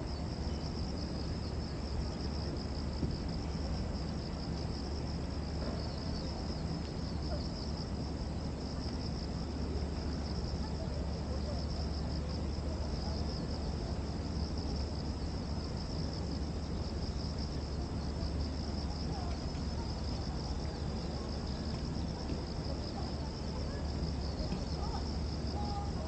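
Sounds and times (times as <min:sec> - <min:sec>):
cicadas buzzing: 0:00.0 - 0:26.0.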